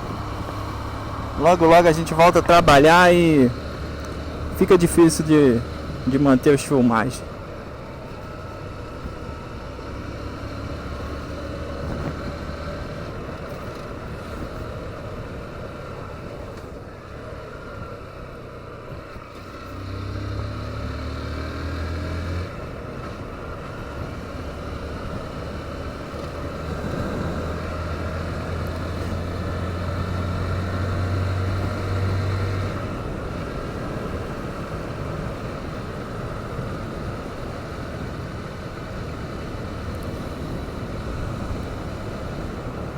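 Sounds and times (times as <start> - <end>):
motorcycle engine running: 0.0 - 21.2, 22.4 - 42.9
wind and road noise: 0.0 - 42.9.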